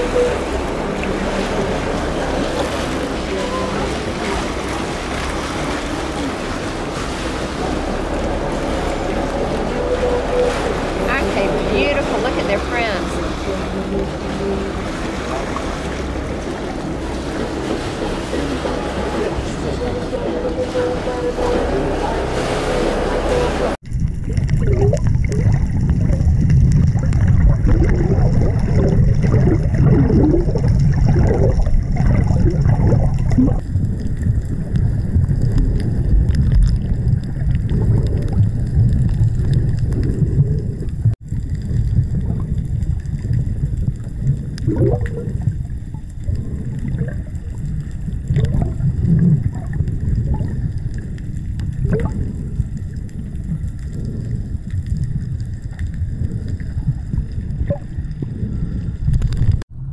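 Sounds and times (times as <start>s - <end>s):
gurgles and bubbles: 0.0s - 59.6s
muffled underwater rumble: 0.0s - 59.9s.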